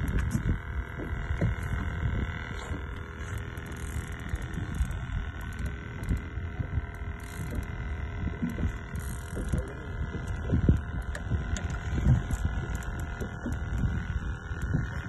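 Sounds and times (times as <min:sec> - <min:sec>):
faint steady hum: 0:00.0 - 0:15.0
thumping around a boat: 0:00.0 - 0:15.0.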